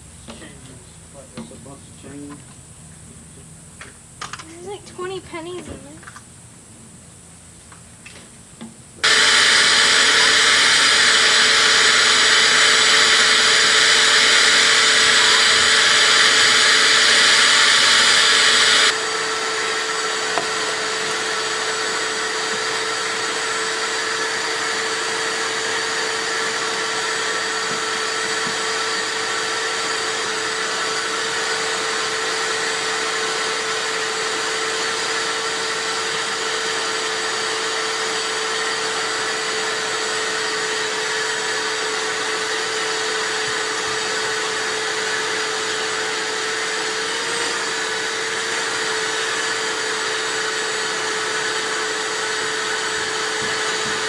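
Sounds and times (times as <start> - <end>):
vacuum humming: 0.0 - 6.2, 6.8 - 54.0
shop vac rushing air: 9.0 - 54.0.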